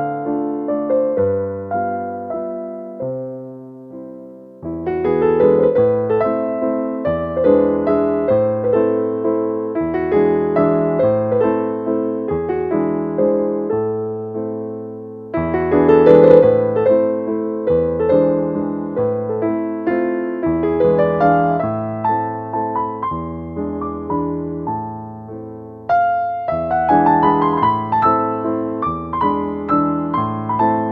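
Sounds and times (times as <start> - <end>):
background piano music: 0.0 - 30.9.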